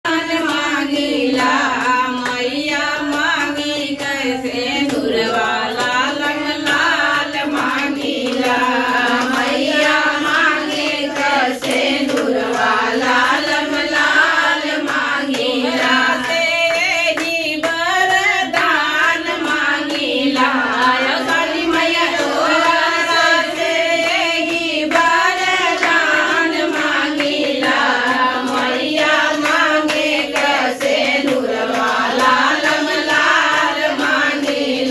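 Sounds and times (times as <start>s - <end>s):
women singing a folk song: 0.0s - 34.9s
hands clapping: 0.1s - 34.9s.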